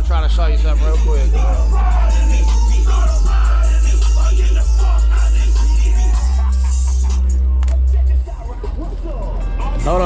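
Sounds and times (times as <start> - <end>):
hip-hop through car speakers: 0.0 - 10.0.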